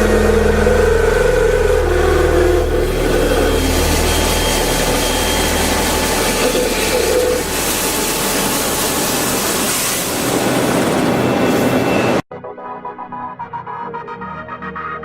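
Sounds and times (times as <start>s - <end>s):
milling machine running: 0.0s - 12.1s
low hum: 0.0s - 12.2s.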